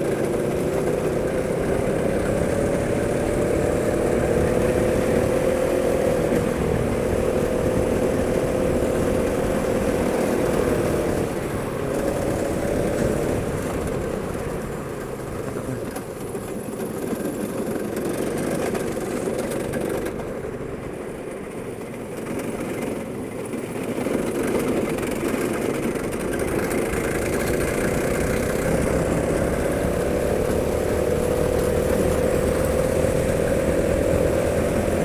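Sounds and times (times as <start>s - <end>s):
go-kart engine running: 0.0s - 35.0s.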